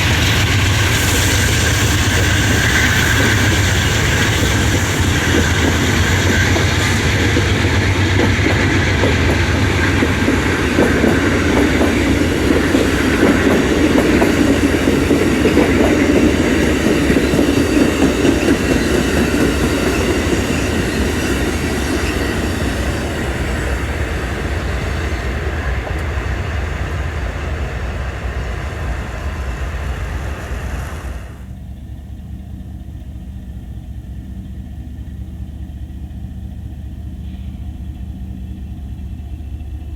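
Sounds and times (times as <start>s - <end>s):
train rolling on rails: 0.0s - 39.9s.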